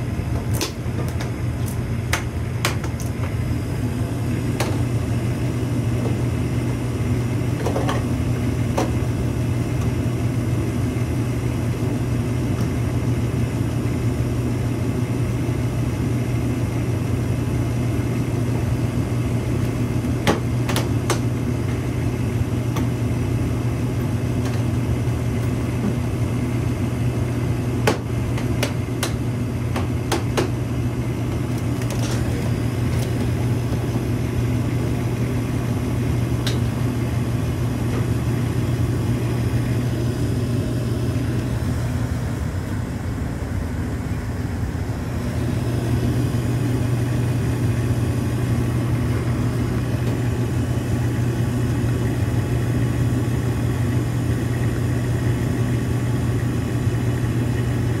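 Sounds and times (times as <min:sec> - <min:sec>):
gas furnace humming: 0:00.0 - 0:58.0.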